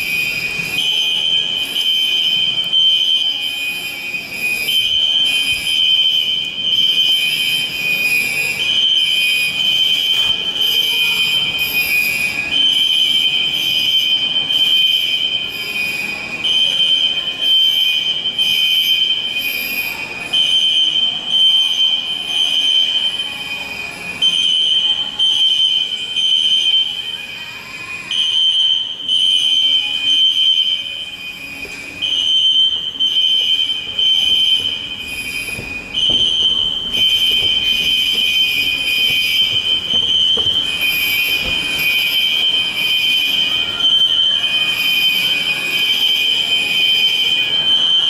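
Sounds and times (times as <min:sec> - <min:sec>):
shrill fire alarm tones: 0:00.0 - 0:48.0.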